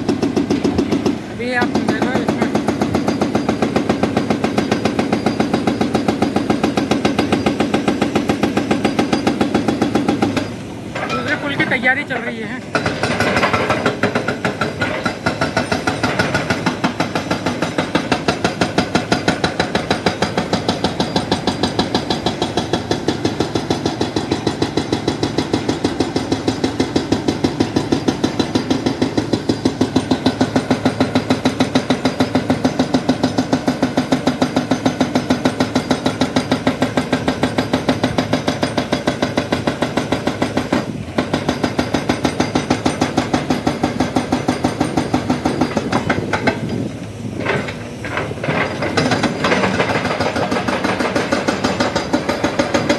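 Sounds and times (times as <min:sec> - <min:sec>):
excavator engine running: 0:00.0 - 0:52.9
hydraulic breaker hammering rock: 0:00.0 - 0:52.9.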